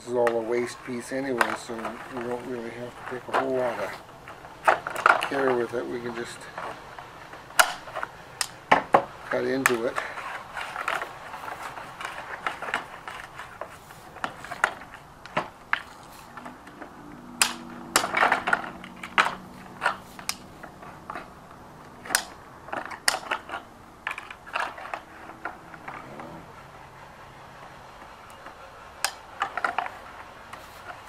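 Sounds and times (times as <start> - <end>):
siding rattling: 0.0 - 31.0
snips cutting plastic siding: 0.2 - 16.8, 17.4 - 26.1.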